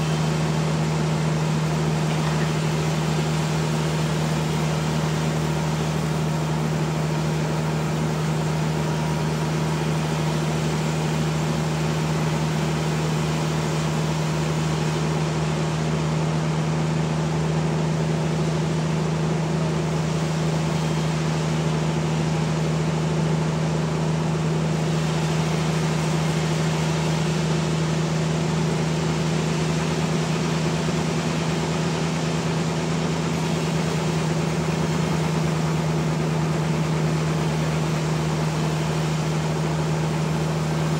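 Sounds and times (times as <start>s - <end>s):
sawmill humming: 0.0s - 40.9s.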